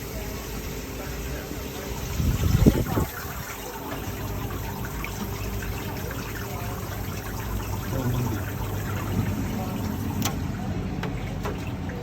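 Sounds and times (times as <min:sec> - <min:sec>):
pump humming: 0:00.0 - 0:12.0
water trickling and splashing: 0:00.0 - 0:12.0.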